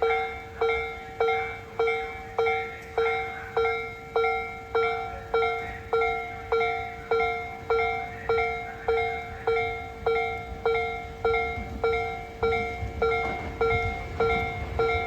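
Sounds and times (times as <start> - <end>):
level crossing bell clanging: 0.0 - 15.0.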